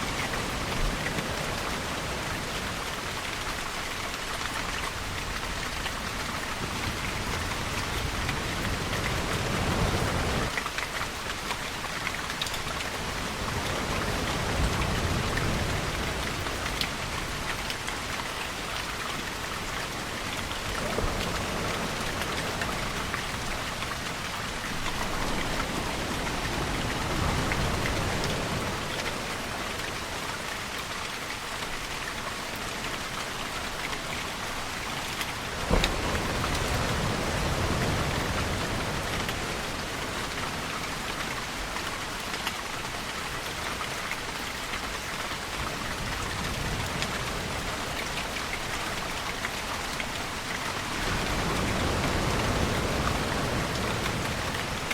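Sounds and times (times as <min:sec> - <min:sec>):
ocean waves: 0:00.0 - 0:54.9
steady rain falling: 0:00.0 - 0:54.9.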